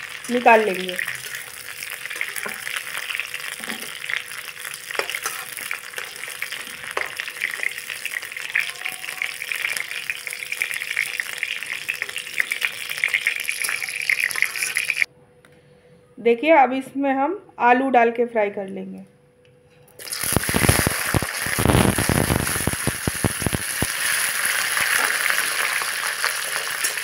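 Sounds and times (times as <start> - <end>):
vegetables sizzling in hot oil: 0.0 - 15.1, 20.0 - 27.0.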